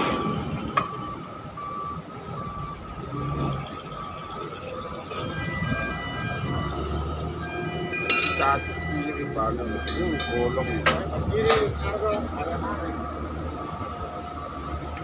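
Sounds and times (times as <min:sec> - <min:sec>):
diesel engine rumble: 0:00.0 - 0:15.0
truck reversing alarm beeping: 0:00.0 - 0:15.0.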